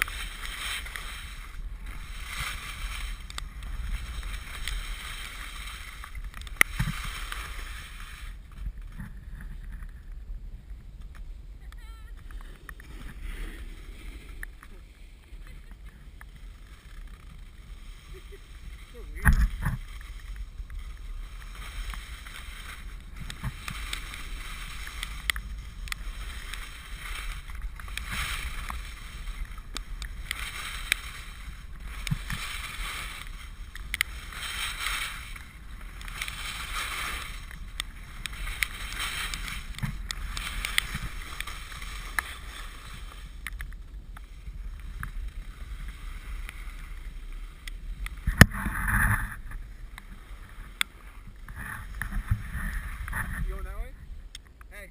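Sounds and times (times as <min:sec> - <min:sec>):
skis hissing on snow: 0:00.0 - 0:09.6, 0:11.9 - 0:53.9
wind rumble on microphone: 0:00.0 - 0:54.9.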